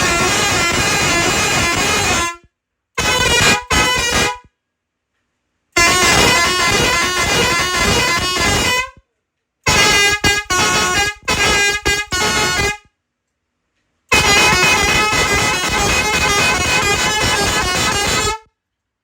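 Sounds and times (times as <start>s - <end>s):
multi-tone truck horn blasts: 0.0s - 4.5s, 5.8s - 9.0s, 9.7s - 12.9s, 14.1s - 18.5s.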